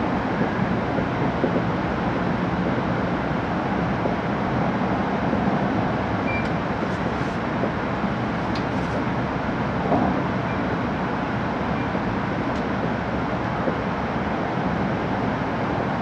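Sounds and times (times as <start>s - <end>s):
train rumble inside cabin: 0.0s - 16.0s.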